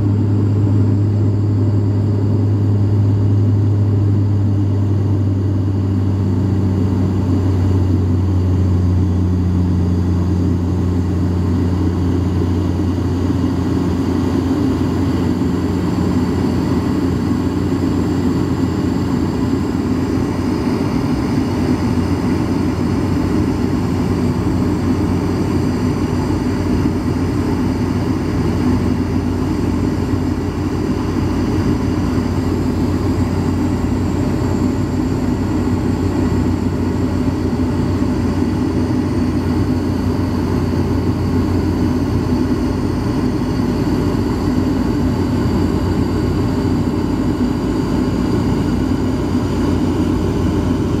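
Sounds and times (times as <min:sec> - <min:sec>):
airliner cabin propeller drone: 0:00.0 - 0:51.0.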